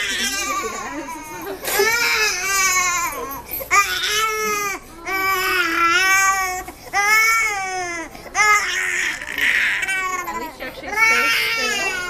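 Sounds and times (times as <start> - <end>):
baby crying: 0.0 - 12.0.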